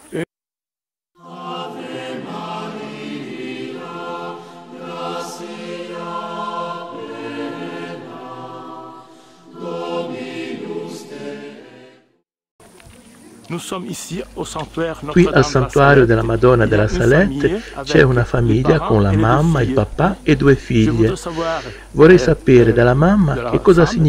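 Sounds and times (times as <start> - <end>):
group singing a hymn: 1.2 - 12.2, 14.3 - 24.0.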